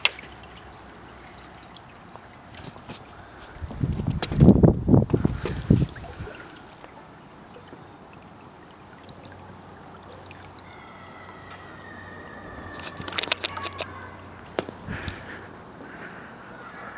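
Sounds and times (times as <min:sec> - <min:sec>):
water lapping against wooden dock: 0:00.0 - 0:16.9.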